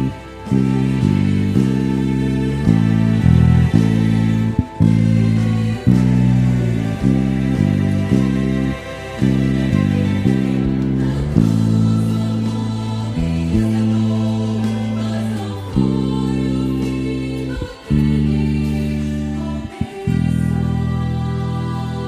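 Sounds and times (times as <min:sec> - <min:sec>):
choir singing held chords: 0:00.0 - 0:22.0
low bass line: 0:00.0 - 0:22.0.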